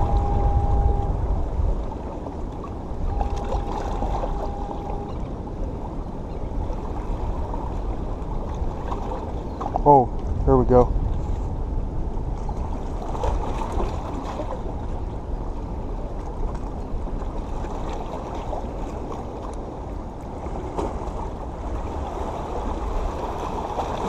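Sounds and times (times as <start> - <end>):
water sloshing against rocks: 0.0 - 24.0
wind on microphone: 0.0 - 24.0.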